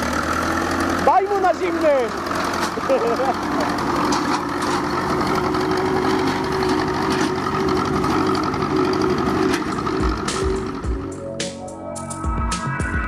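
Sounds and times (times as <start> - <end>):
tractor diesel engine pulling away: 0.0 - 13.0.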